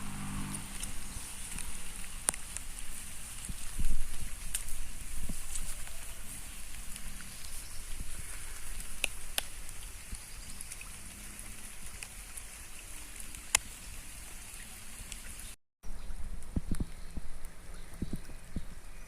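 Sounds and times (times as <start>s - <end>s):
raindrops ticking close by: 0.0s - 15.6s.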